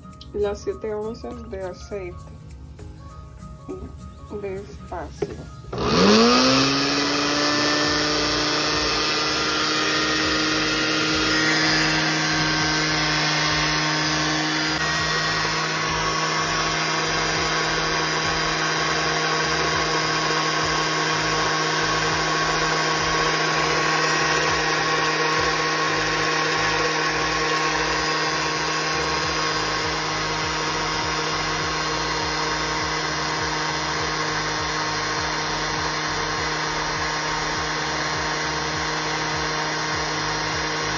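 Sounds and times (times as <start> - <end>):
blender motor running: 5.6 - 40.9.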